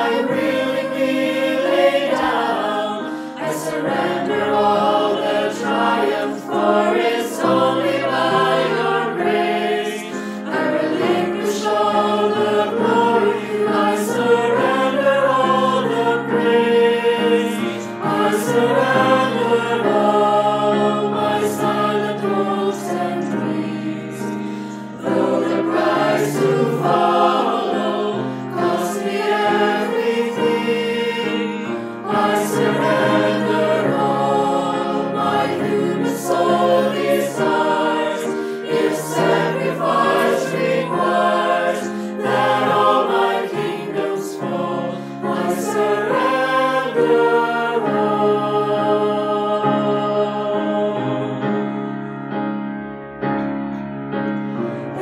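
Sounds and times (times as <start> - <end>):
choir singing: 0.0 - 52.5, 54.5 - 55.0
piano accompaniment: 0.0 - 55.0.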